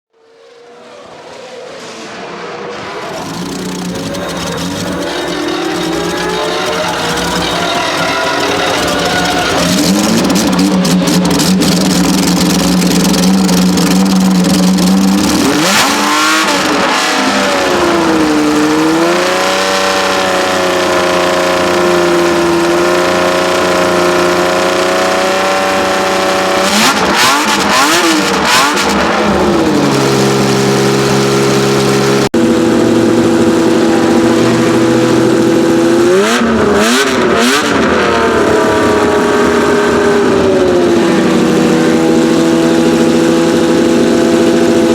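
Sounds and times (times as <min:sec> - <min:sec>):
racing engine at high revs: 0:00.2 - 0:44.9.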